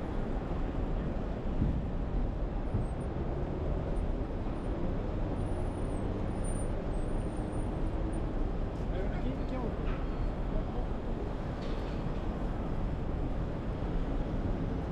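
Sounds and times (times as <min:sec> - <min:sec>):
city street traffic rumble: 0:00.0 - 0:14.9.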